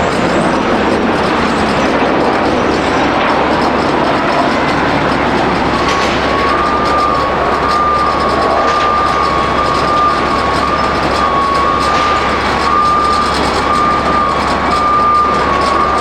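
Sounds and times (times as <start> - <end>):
high jet engine whine: 0.0 - 16.0
jet engine roar: 0.0 - 16.0.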